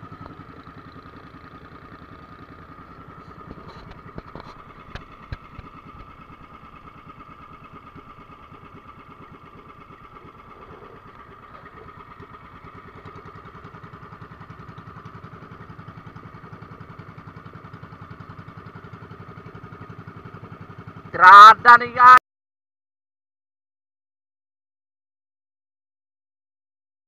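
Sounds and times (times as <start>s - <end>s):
boat engine running: 0.0s - 22.2s.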